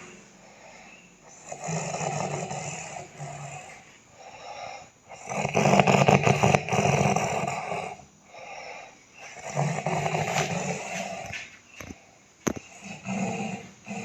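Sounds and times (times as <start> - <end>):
loud rough snoring: 0.0 - 14.0.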